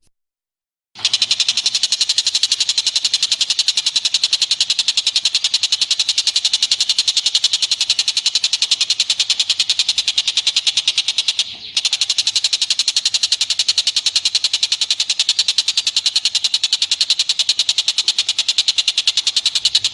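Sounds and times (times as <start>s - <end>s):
animal chattering trill: 1.0s - 19.9s.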